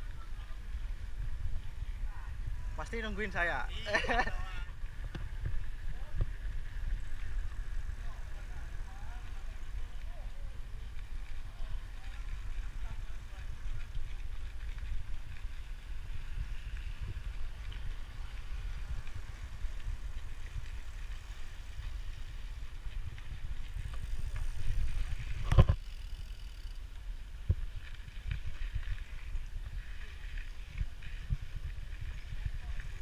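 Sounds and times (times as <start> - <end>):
wind buffeting microphone: 0.0 - 25.9, 27.0 - 33.0.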